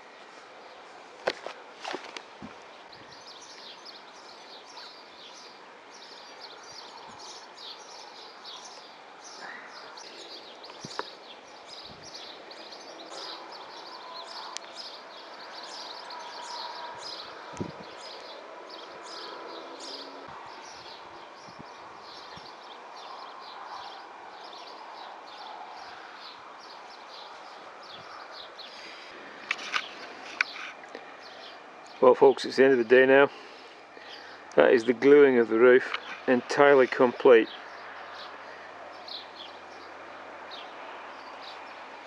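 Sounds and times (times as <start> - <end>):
small birds chirping rapidly: 0.0 - 42.0.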